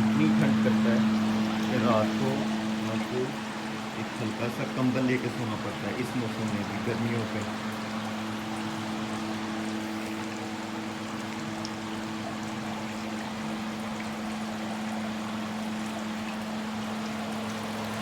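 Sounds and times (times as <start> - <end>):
fan motor humming: 0.0 - 18.0
water trickling: 0.0 - 18.0.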